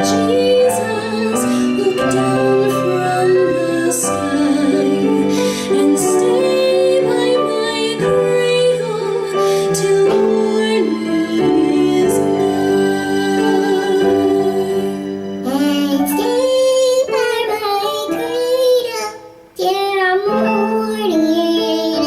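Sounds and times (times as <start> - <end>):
slow song with singing: 0.0 - 22.0.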